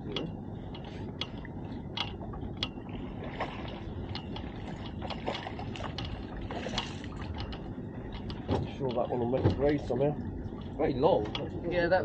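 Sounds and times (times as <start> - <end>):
boat engine rumble: 0.0 - 12.0
water: 0.0 - 12.0
wind: 0.0 - 12.0.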